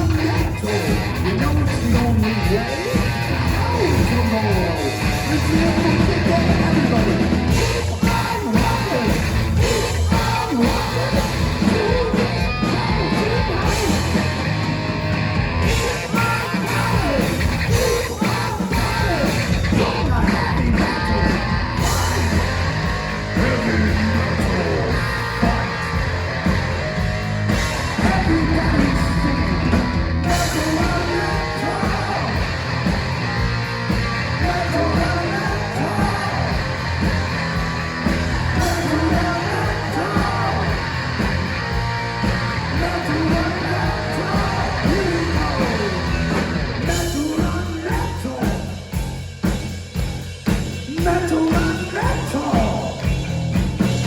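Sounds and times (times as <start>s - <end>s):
person singing: 0.0s - 14.4s, 15.6s - 26.2s, 27.5s - 37.1s, 38.4s - 48.8s, 50.9s - 53.2s
bass guitar: 0.0s - 54.0s
drums pounding: 0.0s - 54.0s
electric guitars: 0.0s - 54.0s.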